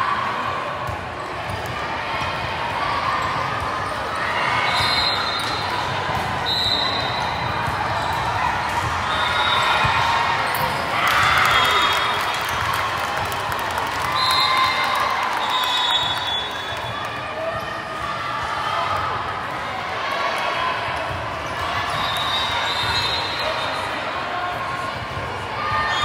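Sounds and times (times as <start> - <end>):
spectators' voices: 0.0 - 26.0.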